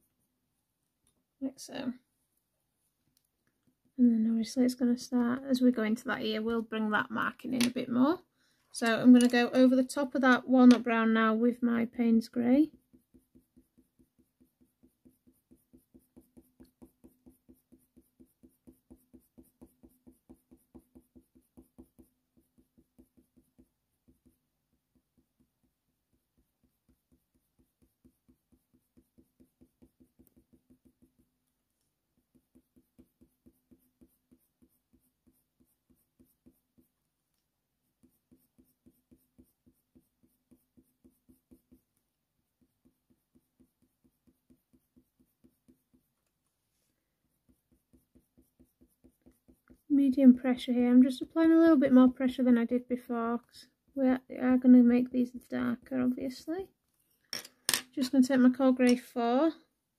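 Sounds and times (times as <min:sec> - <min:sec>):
pencil strokes on paper: 0:00.0 - 0:00.9, 0:03.6 - 0:57.2.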